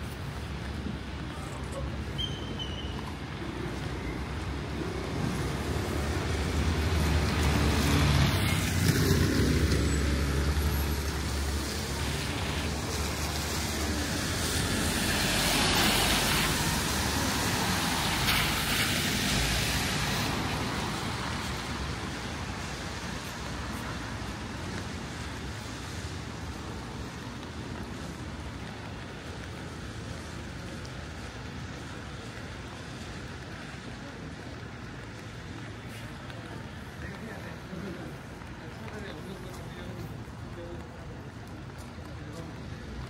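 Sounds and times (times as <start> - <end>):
vehicles passing: 0.0 - 43.0.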